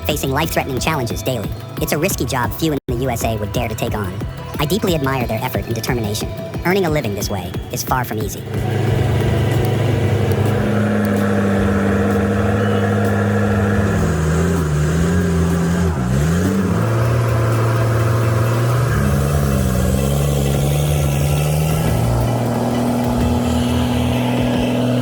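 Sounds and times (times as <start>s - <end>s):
truck diesel engine running: 0.0s - 25.0s.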